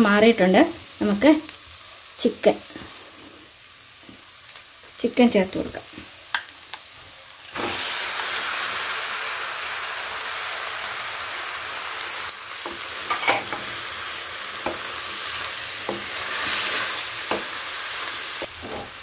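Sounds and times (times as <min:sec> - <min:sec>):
chicken sizzling in a hot pan: 0:00.0 - 0:19.0.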